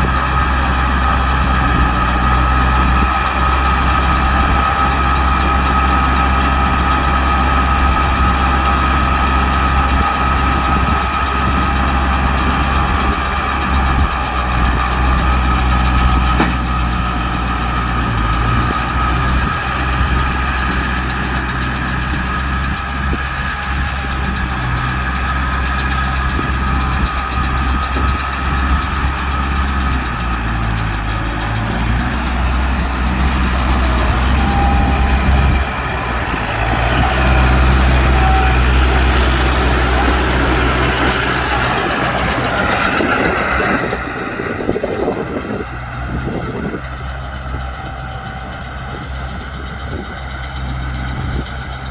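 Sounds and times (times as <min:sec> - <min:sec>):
mechanical whine: 0:00.0 - 0:51.9
tractor engine running: 0:00.0 - 0:51.9.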